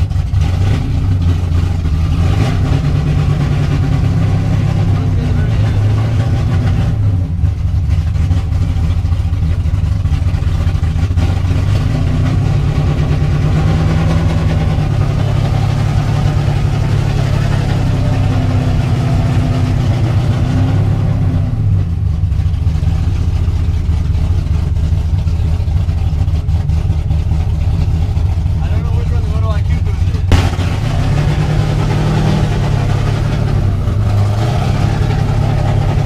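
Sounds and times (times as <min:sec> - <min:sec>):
race car engine at low revs: 0:00.0 - 0:36.0.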